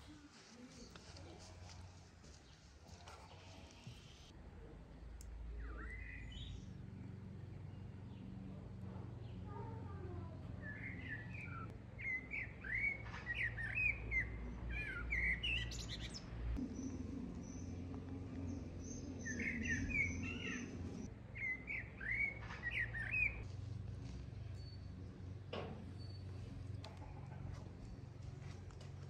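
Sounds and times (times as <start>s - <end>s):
low steady hum: 0.0s - 29.0s
songbird singing: 2.3s - 23.5s, 24.1s - 29.0s.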